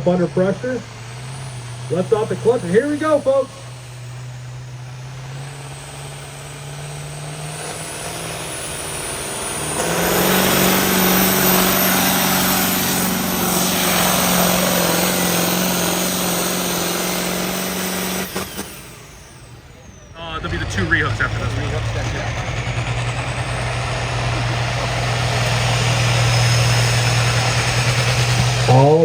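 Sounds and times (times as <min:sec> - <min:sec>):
turbocharged engine revving under load: 0:00.0 - 0:29.0.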